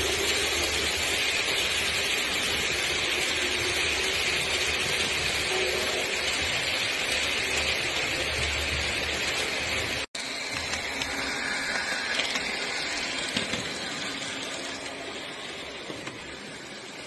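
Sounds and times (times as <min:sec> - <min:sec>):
model trains rolling on track: 0:00.0 - 0:17.0.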